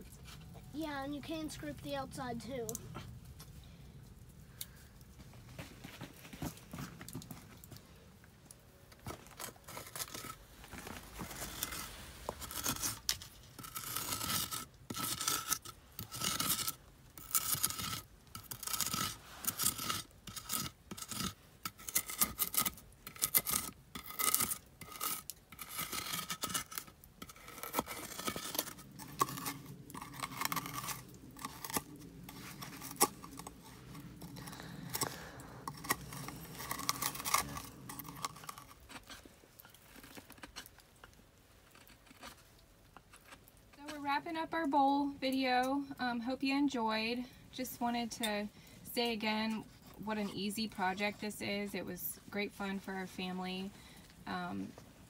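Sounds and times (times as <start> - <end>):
scraping charred wood: 0.0 - 55.0.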